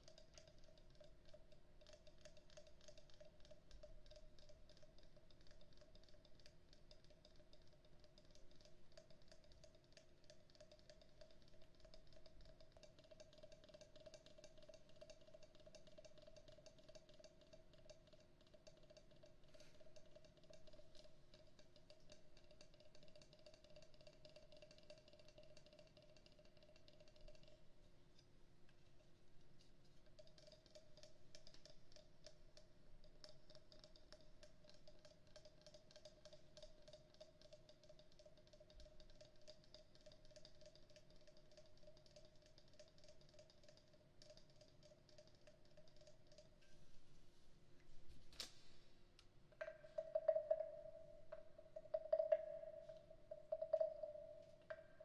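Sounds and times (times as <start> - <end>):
wooden frog instrument clicking: 0.0 - 27.6, 30.1 - 46.6, 49.6 - 55.0
faint steady hum: 0.0 - 55.0.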